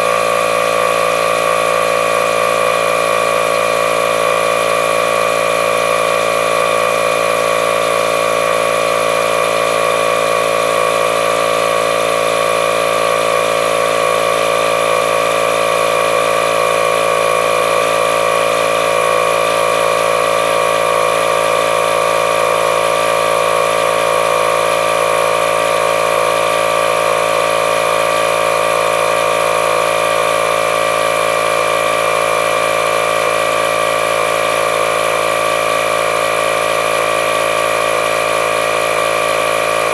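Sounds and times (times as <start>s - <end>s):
air inflator running: 0.0s - 39.9s.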